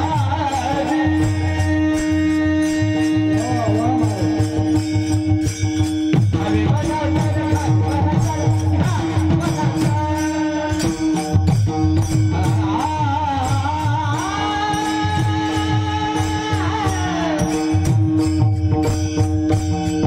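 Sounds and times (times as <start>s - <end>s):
metallic cymbal beats: 0.0s - 20.0s.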